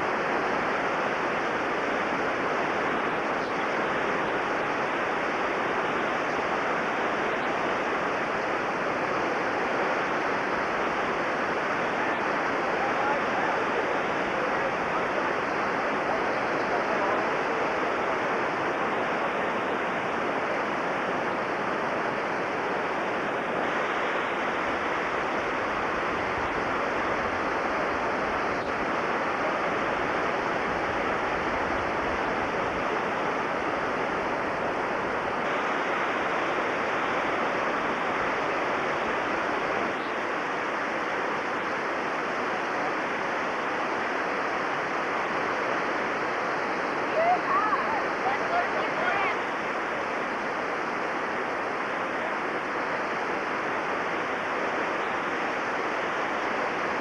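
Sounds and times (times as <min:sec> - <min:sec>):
whitewater rapids rushing: 0:00.0 - 0:57.0.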